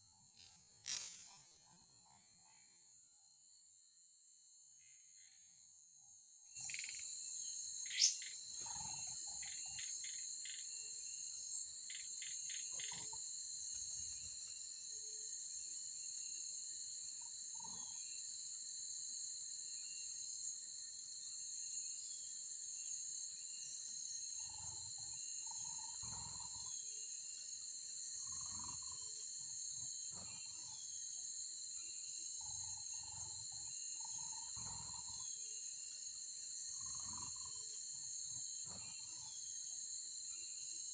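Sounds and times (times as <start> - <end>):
high-pitched insect chorus: 0.0 - 2.6, 4.8 - 40.9.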